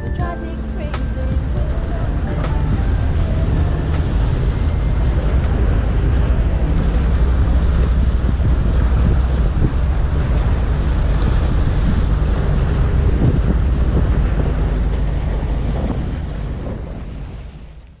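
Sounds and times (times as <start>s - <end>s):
wind buffeting microphone: 0.0s - 17.9s
motorcycle low rumble: 0.0s - 18.0s.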